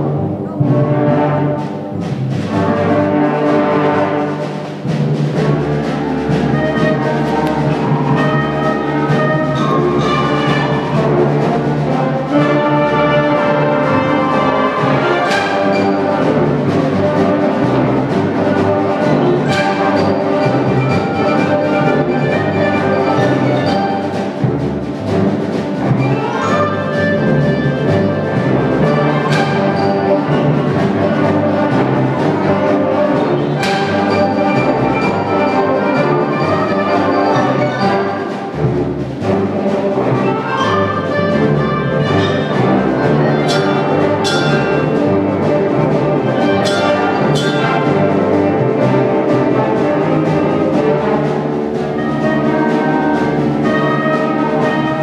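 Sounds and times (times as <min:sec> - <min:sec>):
concert band playing: 0:00.0 - 0:55.0
sharp percussion strikes: 0:01.6 - 0:55.0.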